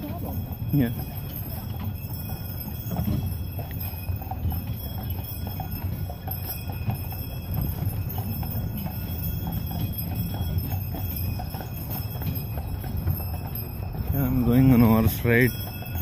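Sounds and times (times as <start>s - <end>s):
carriage wheels rumbling: 0.0s - 16.0s
horse hooves clip-clopping: 0.0s - 16.0s.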